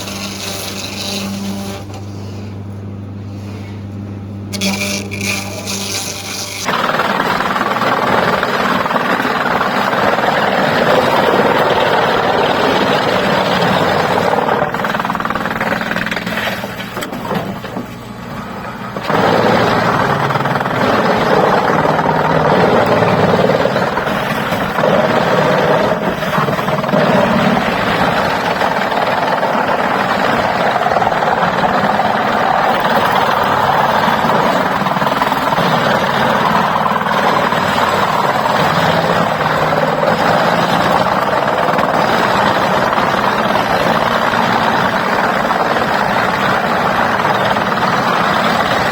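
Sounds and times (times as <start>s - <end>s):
heavy machinery running: 0.0s - 48.9s.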